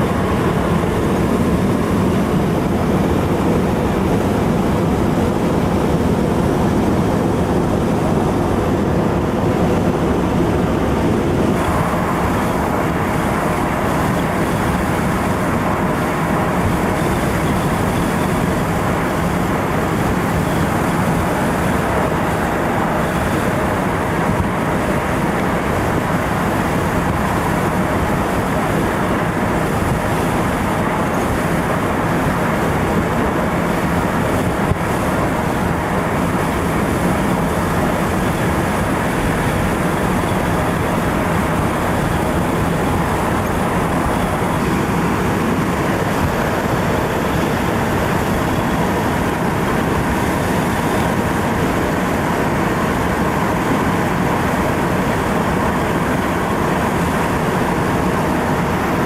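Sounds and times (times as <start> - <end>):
vehicle and road noise: 0.0 - 59.0.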